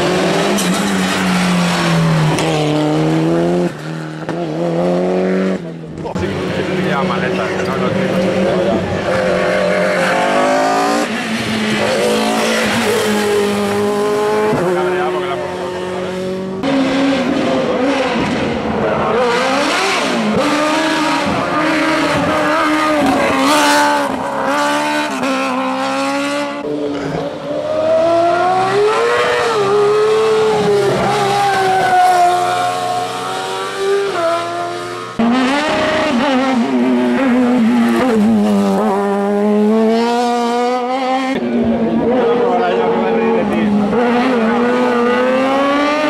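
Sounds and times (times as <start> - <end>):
race car engines accelerating: 0.0 - 46.0.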